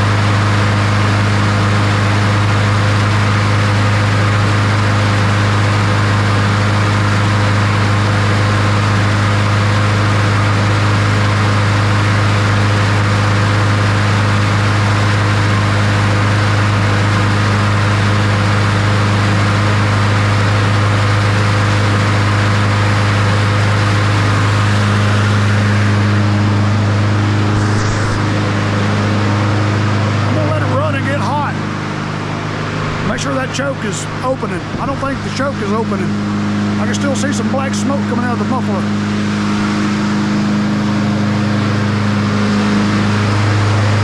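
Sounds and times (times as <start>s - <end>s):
lawn mower engine running: 0.0s - 44.0s.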